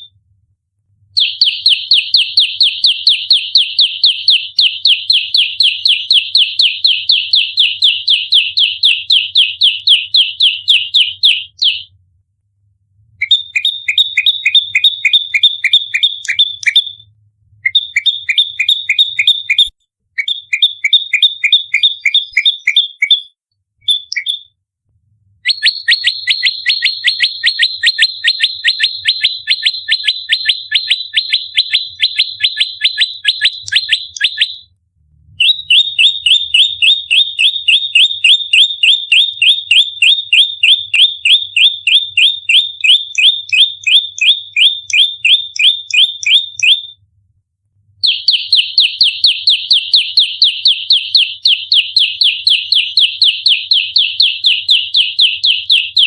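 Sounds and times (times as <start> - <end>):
bird song rapid high notes: 1.2 - 11.9, 13.2 - 17.0, 17.6 - 24.6, 25.4 - 34.7, 35.4 - 47.0, 48.0 - 56.0.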